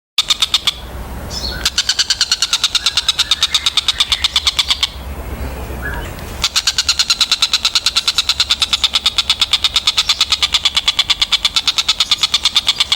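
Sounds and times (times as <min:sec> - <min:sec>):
soft bird calls: 0:00.2 - 0:12.9
kingfisher rapid harsh notes: 0:01.6 - 0:12.9.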